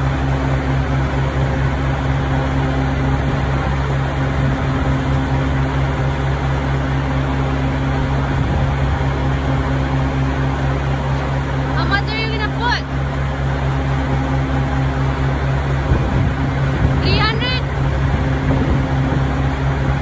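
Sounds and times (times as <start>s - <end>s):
fuel pump humming: 0.0s - 20.0s.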